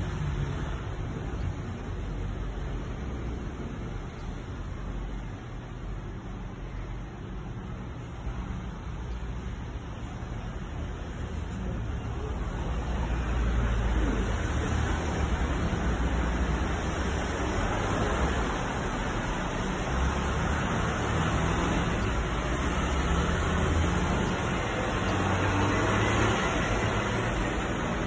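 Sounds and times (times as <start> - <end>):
city traffic hiss and rumble: 0.0 - 28.0.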